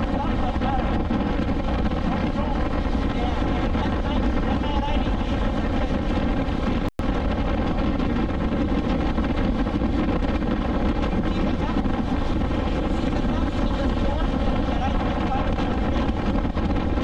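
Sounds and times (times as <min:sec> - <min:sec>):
wind rush: 0:00.0 - 0:17.0.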